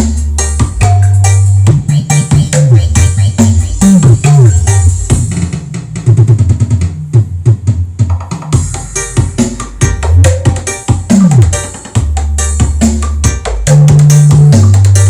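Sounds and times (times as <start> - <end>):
electronic music with heavy bass: 0.0 - 15.0.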